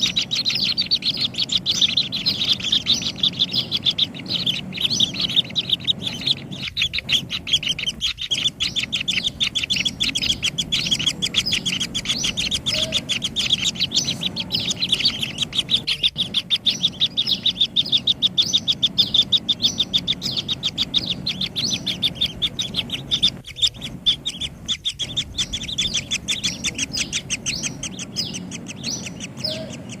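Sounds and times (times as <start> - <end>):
bird chicks chirping: 0.0 - 30.0.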